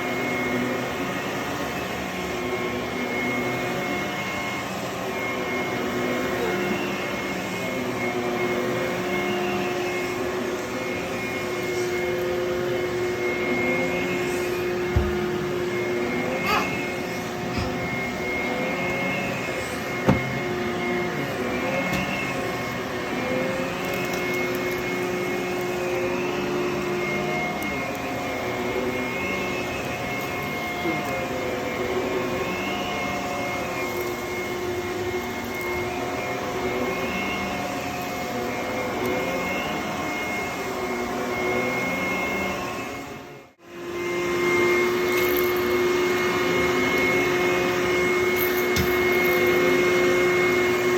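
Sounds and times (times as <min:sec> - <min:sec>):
vacuum cleaner motor whine: 0:00.0 - 0:50.9.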